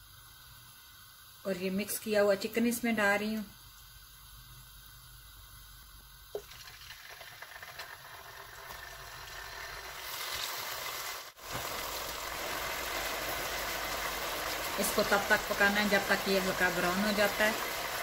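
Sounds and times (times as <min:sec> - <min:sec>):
chicken sizzling in a frying pan: 0:00.0 - 0:18.0.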